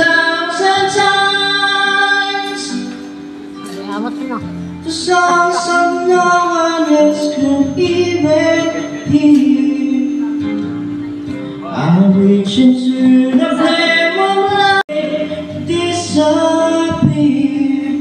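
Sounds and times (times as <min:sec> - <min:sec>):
man singing into a microphone: 0:00.0 - 0:03.2, 0:04.8 - 0:18.0
instrumental accompaniment: 0:00.0 - 0:18.0.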